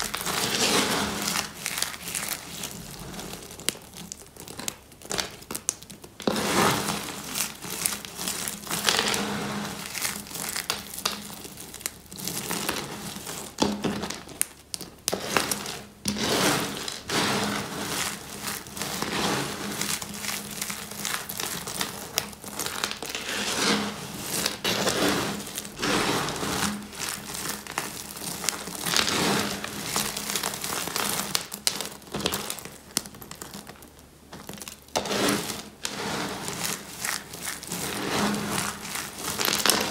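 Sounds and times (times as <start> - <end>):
hands crushing dry soap flakes: 0.0 - 39.9.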